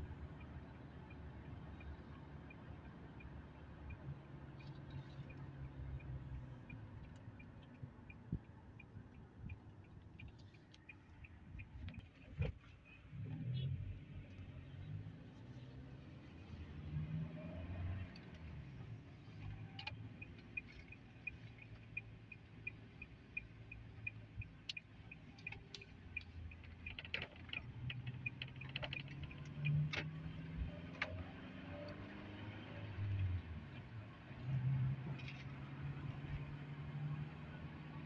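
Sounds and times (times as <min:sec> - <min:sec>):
turn signal ticking: 0:00.0 - 0:14.8, 0:17.3 - 0:36.9
engine and tyre rumble: 0:00.0 - 0:38.0.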